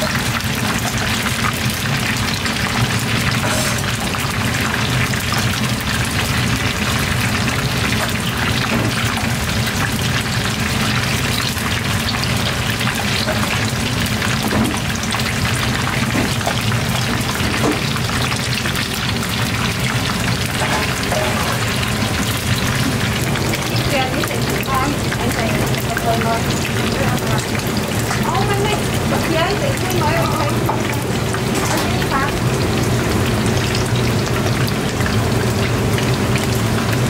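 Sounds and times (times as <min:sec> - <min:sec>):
deep-frying sizzle and crackle: 0:00.0 - 0:37.0.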